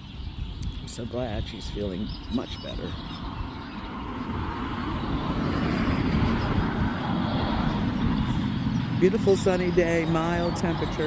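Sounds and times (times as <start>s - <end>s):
passing motor vehicle rumble: 0.0s - 11.0s.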